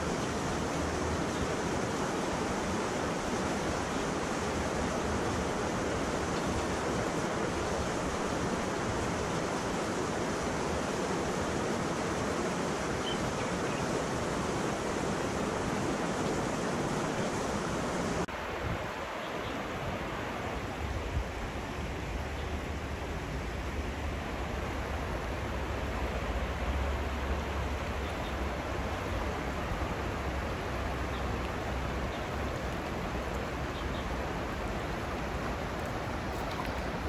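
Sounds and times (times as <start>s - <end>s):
open air hiss: 0.0s - 37.0s
river water over rapids: 0.0s - 37.0s.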